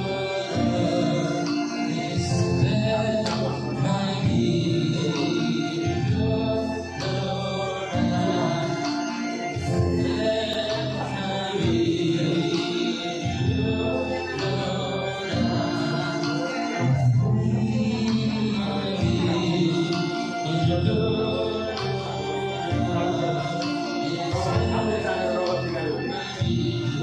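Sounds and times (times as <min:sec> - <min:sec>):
choir-like singing music: 0:00.0 - 0:27.0.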